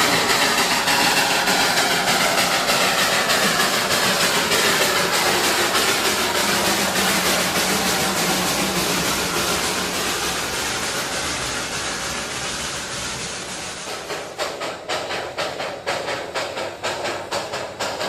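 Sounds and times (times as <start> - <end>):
steam locomotive chuffing: 0.0 - 18.0
steam locomotive hiss: 0.0 - 18.0.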